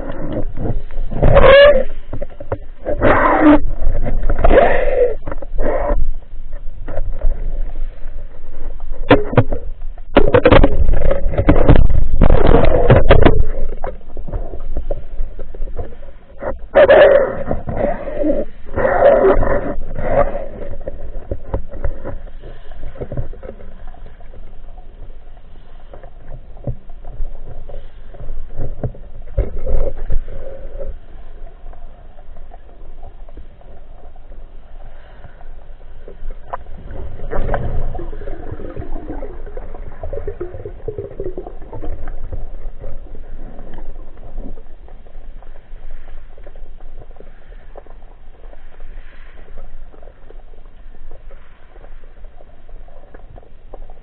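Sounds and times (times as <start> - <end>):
underwater rustling and knocking: 0.0 - 54.0
water sloshing and bubbling: 0.0 - 54.0.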